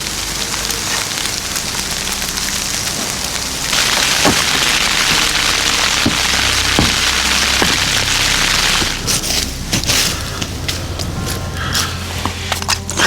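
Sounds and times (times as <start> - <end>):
heavy rain pattering: 0.0 - 13.0.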